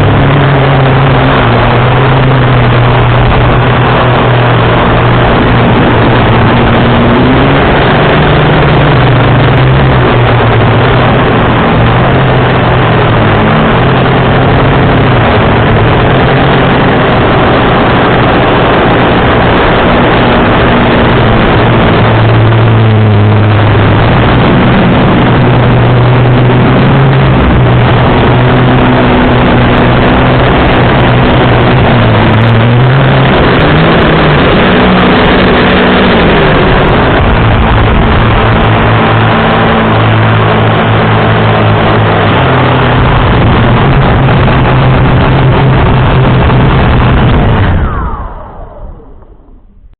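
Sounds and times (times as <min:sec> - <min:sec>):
wind rush: 0:00.0 - 0:49.9.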